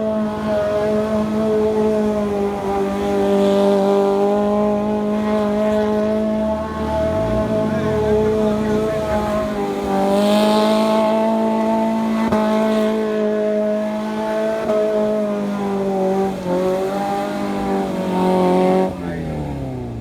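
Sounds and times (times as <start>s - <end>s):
engine at high revs: 0.0s - 20.0s.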